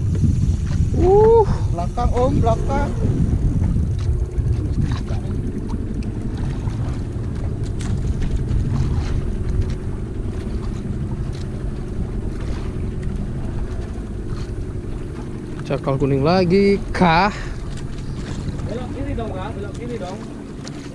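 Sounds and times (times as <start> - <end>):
boat engine droning: 0.0 - 20.9
wind on microphone: 0.0 - 20.9.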